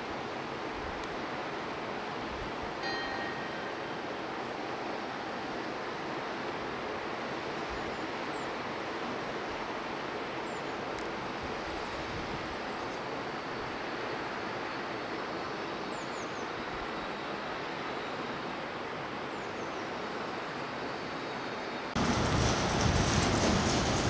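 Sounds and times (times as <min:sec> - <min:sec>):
river water rushing: 0:00.0 - 0:22.1.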